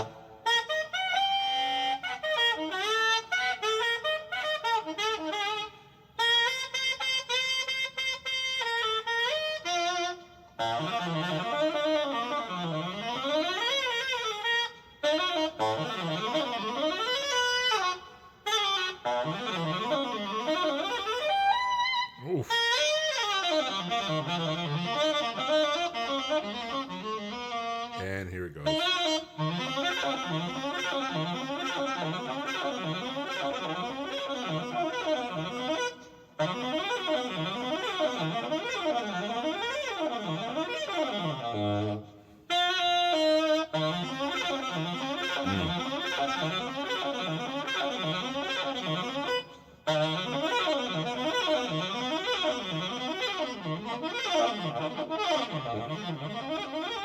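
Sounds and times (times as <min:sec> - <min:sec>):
tenor saxophone playing: 0:00.0 - 0:57.0.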